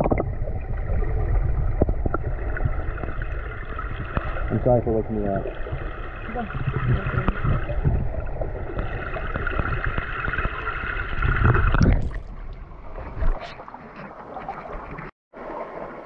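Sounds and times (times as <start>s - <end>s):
stream running: 0.0s - 16.0s
underwater water rushing: 0.0s - 16.0s.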